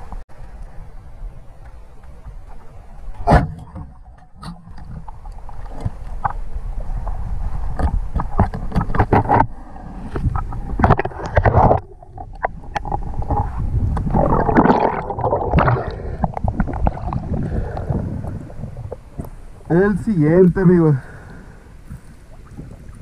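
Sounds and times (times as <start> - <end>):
water churning and bubbling: 1.0 - 23.0.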